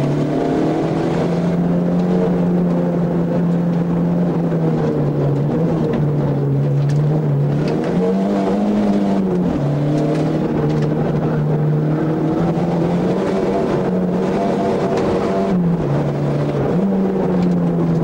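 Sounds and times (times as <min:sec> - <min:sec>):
racing car engine revving: 0:00.0 - 0:18.0.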